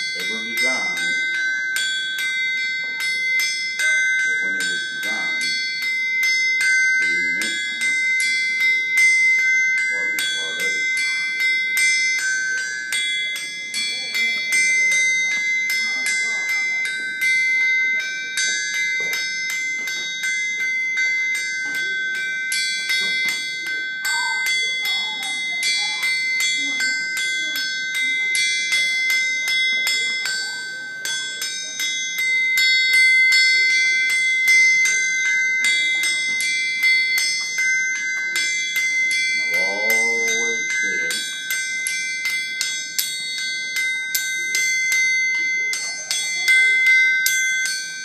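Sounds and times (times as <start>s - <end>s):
hammers ringing on anvil: 0.0s - 47.7s.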